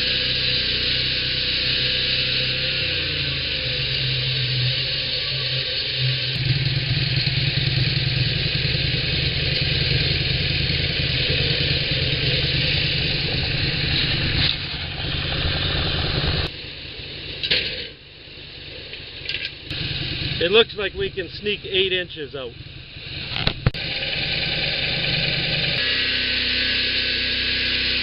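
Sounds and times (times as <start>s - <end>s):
band saw cutting log: 0.0s - 16.5s, 19.7s - 28.0s.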